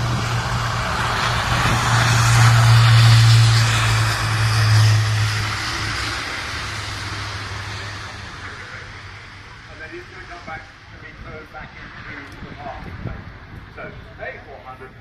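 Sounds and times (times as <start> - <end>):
aircraft engines roaring: 0.0 - 15.0
low hum: 0.0 - 15.0.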